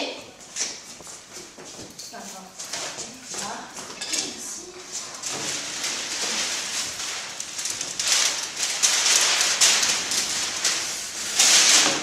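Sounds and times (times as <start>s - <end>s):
paper rustling and crinkling: 0.4s - 12.0s.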